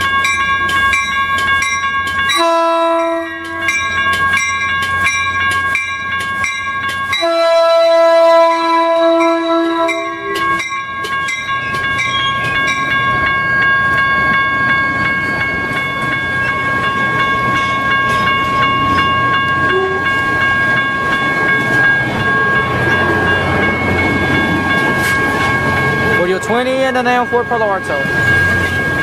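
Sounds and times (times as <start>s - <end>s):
crossing warning bell ringing: 0.0s - 29.0s
train wheels rumbling on rail: 0.0s - 29.0s.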